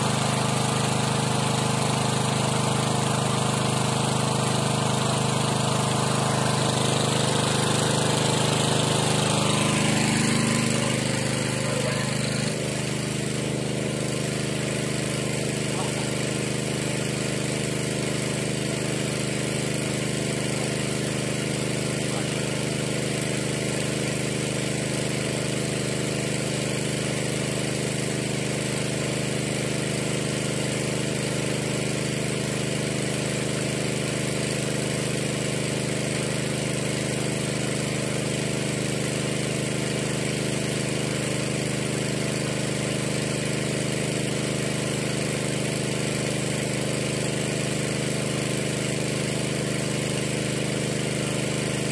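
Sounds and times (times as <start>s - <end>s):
water pump engine running: 0.0s - 51.9s.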